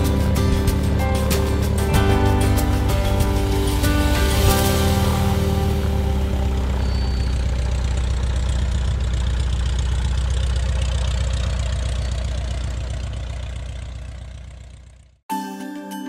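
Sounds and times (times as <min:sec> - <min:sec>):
light aircraft engine and propeller: 0:00.0 - 0:15.1.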